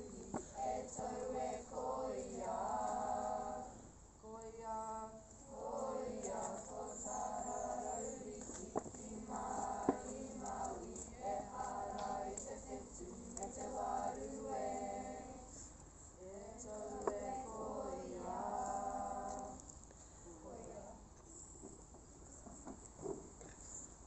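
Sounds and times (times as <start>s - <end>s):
group of voices singing: 0.0s - 19.6s.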